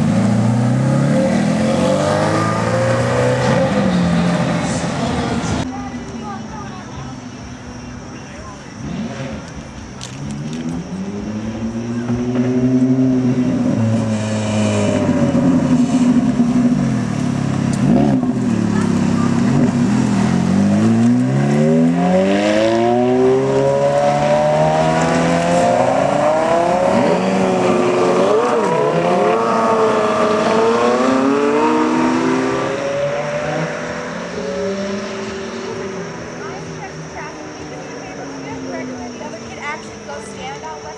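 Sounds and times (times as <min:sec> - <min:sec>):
sports car engine revving: 0:00.0 - 0:05.7, 0:08.5 - 0:40.9.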